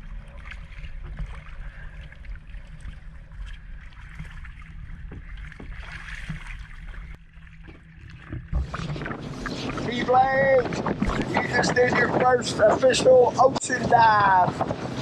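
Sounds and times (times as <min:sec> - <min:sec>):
boat engine hum: 0:00.0 - 0:15.0
water slapping against hull: 0:00.0 - 0:15.0.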